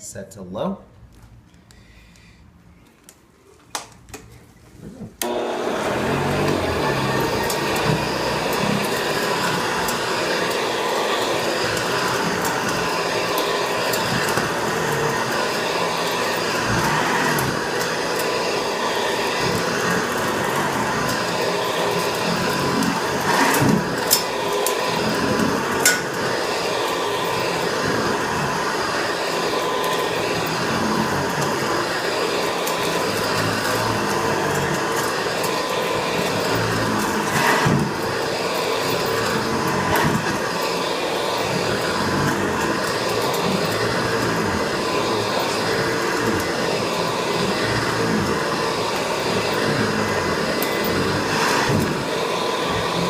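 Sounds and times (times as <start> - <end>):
vacuum cleaner running: 4.8 - 53.0.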